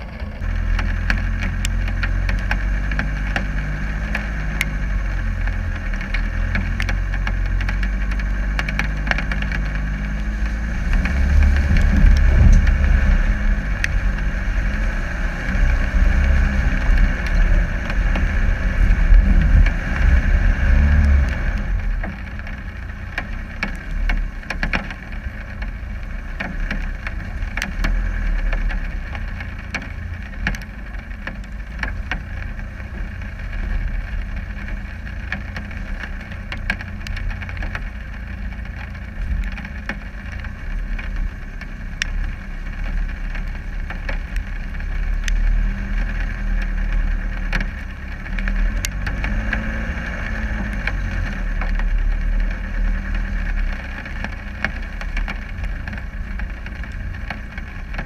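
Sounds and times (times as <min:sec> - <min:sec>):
sharp clicks and knocks: 0:00.0 - 0:04.8, 0:05.4 - 0:14.3, 0:15.4 - 0:58.0
diesel engine rumbling: 0:00.0 - 0:58.0.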